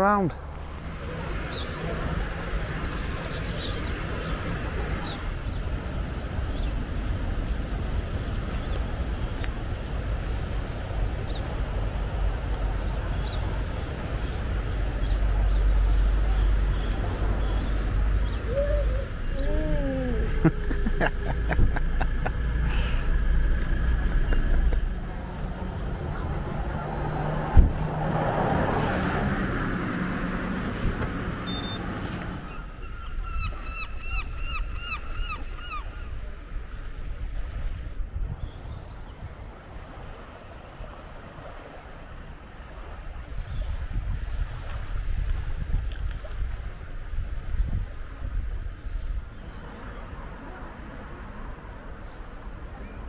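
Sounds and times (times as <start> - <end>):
low shoreline rumble: 0.0 - 53.0.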